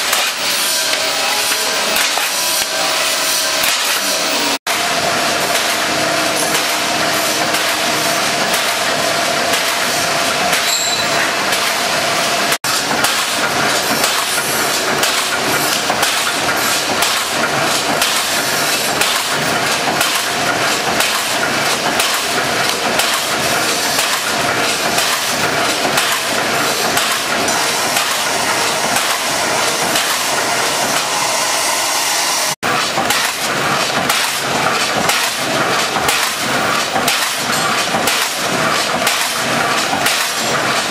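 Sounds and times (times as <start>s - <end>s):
press machine clattering: 0.0s - 31.3s, 32.7s - 40.9s.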